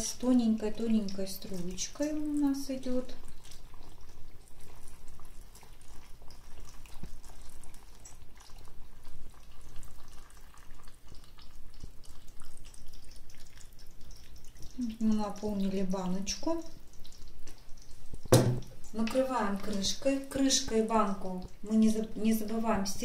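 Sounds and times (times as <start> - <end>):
liquid pouring into a glass jar: 0.8 - 20.7.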